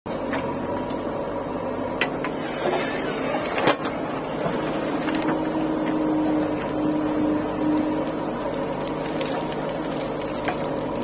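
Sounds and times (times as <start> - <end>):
diesel engine running with whine: 0.1 - 11.0.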